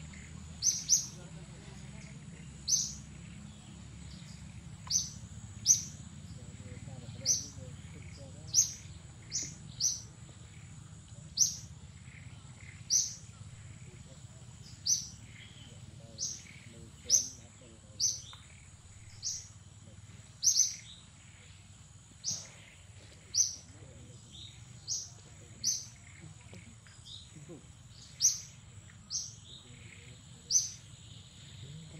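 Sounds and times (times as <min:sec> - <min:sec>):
bird chirping: 0:00.0 - 0:31.9
outdoor background noise: 0:00.0 - 0:31.9.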